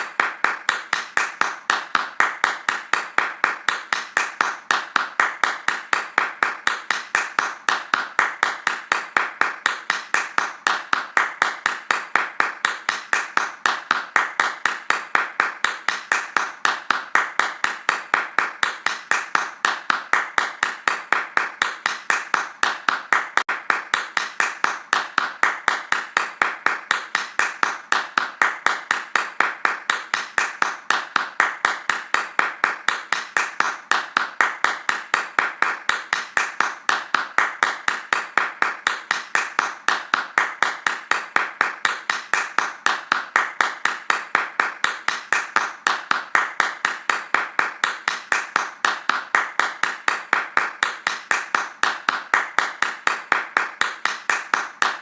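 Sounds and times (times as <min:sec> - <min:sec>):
hands clapping fast: 0:00.0 - 0:55.0.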